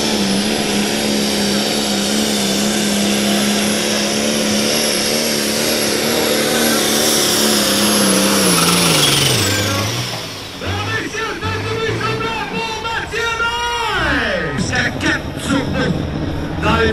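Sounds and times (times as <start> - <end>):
diesel engine at full throttle: 0.0 - 16.9.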